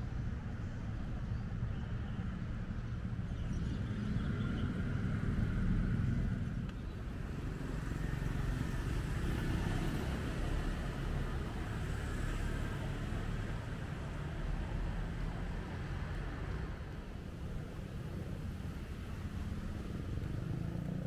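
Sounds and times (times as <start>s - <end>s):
vehicles passing rumble: 0.0s - 21.0s.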